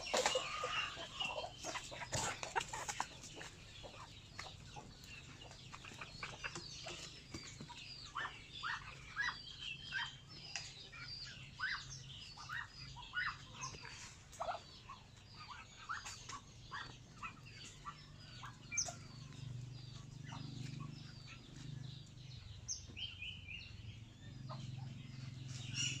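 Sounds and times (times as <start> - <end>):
chicken clucking: 0.0 - 22.2
birds chirping and peeping: 0.0 - 26.0.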